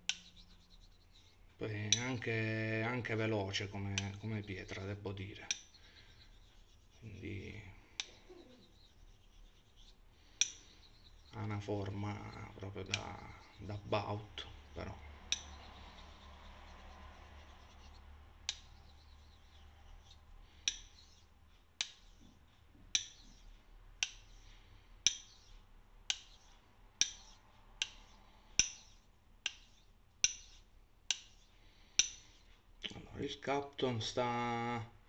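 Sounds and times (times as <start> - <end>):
razor clicking on stone: 0.0 - 21.2, 21.8 - 24.4, 25.0 - 32.3.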